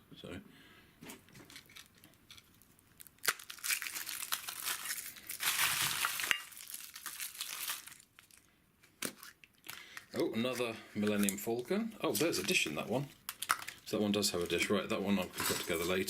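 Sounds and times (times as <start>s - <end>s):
packaging crinkling and tearing: 1.4s - 11.4s, 12.1s - 16.0s.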